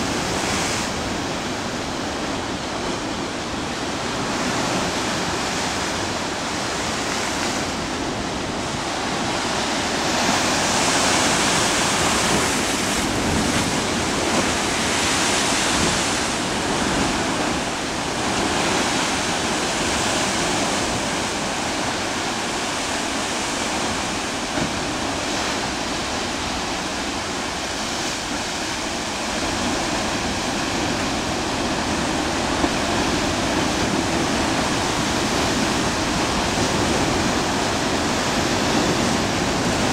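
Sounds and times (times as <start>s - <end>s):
ocean surf breaking on rocks: 0.0s - 39.9s.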